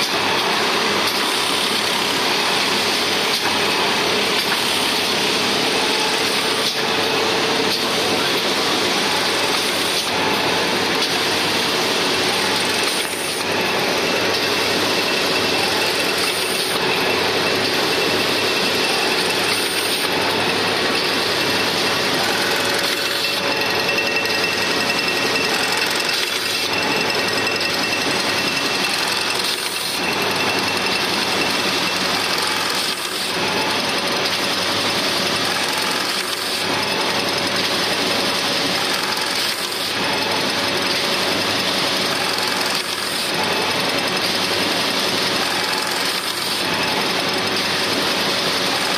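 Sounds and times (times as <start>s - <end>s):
sewing machine mechanical clatter: 0.0s - 48.9s.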